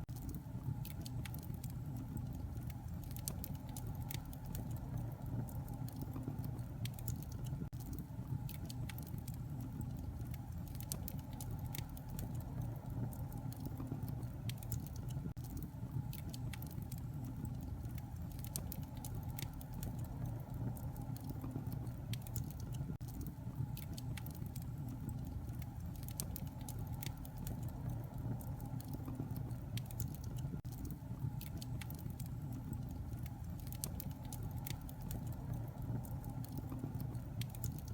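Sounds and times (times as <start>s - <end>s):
fire crackling and popping: 0.0s - 37.9s
fire rumbling: 0.0s - 37.9s.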